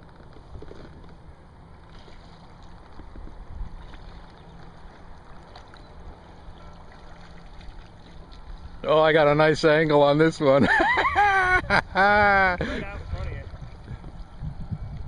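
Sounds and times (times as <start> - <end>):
water lapping against a hull: 0.0 - 15.0.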